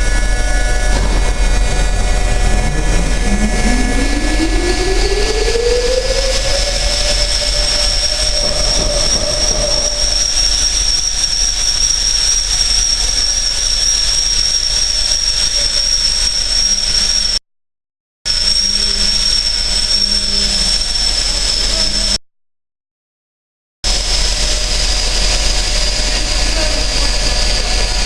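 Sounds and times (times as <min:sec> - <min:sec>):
compressor engine whine: 0:00.0 - 0:17.4, 0:18.3 - 0:22.2, 0:23.9 - 0:28.0.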